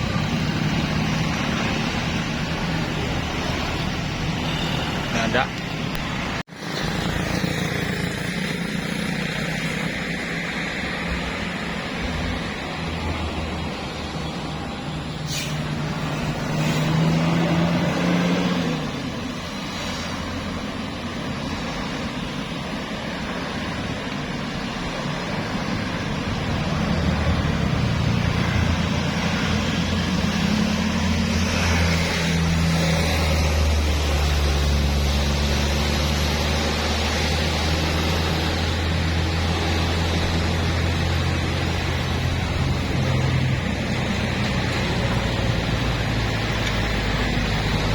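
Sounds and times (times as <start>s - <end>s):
bus engines passing: 0.0s - 47.9s.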